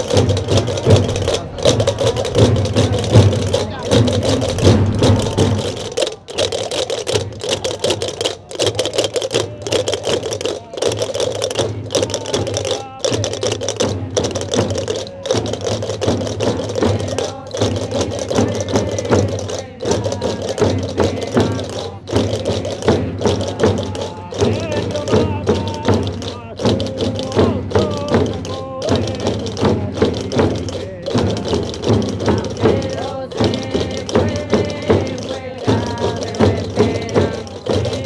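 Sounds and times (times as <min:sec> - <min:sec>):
wooden frame drums: 0:00.0 - 0:38.0.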